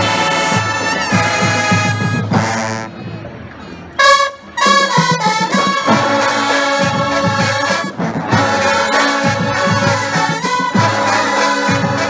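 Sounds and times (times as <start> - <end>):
marching band brass chords: 0.0 - 12.0.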